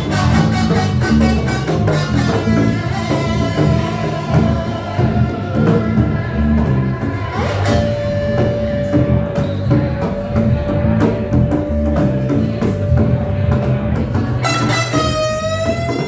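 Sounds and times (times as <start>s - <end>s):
electric bass: 0.0s - 16.0s.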